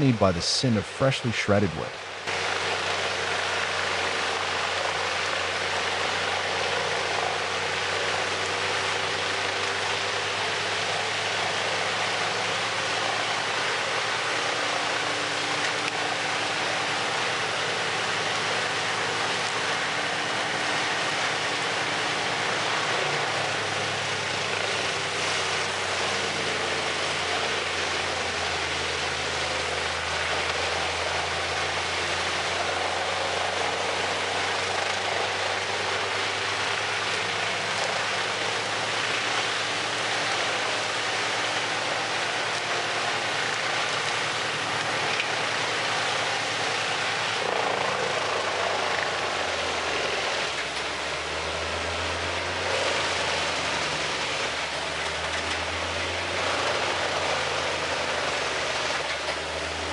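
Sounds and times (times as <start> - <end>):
engine drone: 0.0 - 59.9
wood chipper grinding: 1.9 - 59.9.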